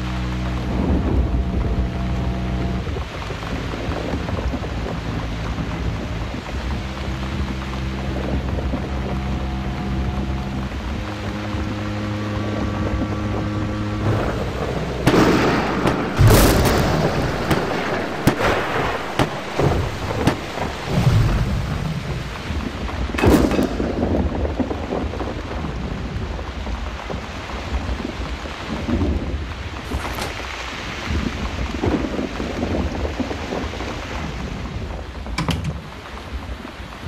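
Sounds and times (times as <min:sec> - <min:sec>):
heavy rain: 0:00.0 - 0:37.0
thunder rumbling: 0:00.0 - 0:37.0.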